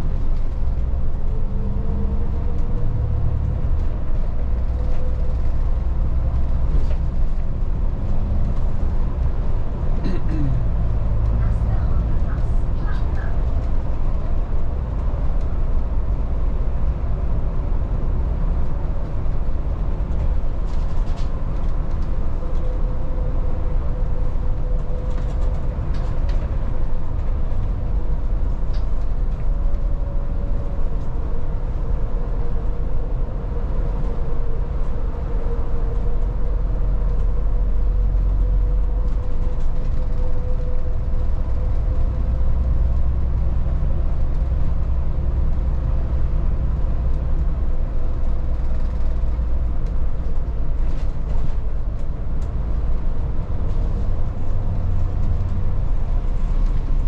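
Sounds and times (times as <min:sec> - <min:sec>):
bus engine rumble: 0:00.0 - 0:57.0.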